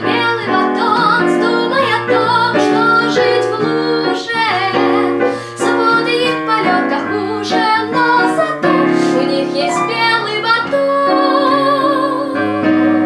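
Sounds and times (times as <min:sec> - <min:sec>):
digital piano accompaniment: 0:00.0 - 0:13.0
woman singing slow song: 0:00.0 - 0:13.0.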